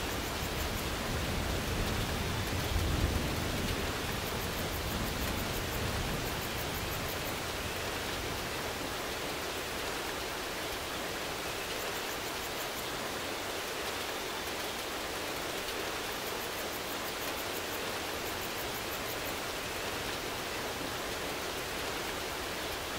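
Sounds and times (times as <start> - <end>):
steady rain hiss: 0.0 - 22.9.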